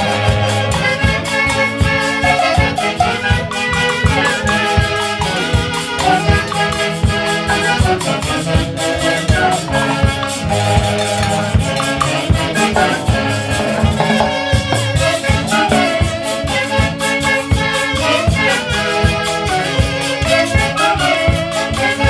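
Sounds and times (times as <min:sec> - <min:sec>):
wind instruments playing melody: 0:00.0 - 0:22.0
steady percussion beat: 0:02.4 - 0:22.0.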